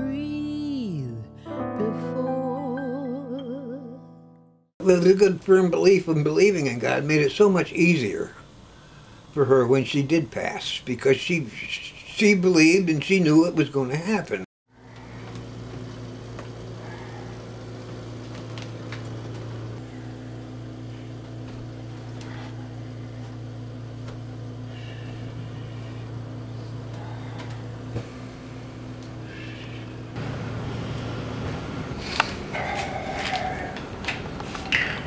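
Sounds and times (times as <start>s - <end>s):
oxygen concentrator humming: 4.8s - 35.0s.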